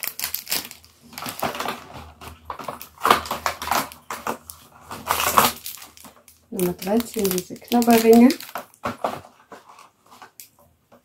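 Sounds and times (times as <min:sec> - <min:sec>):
cardboard crackling and tearing: 0:00.0 - 0:10.4.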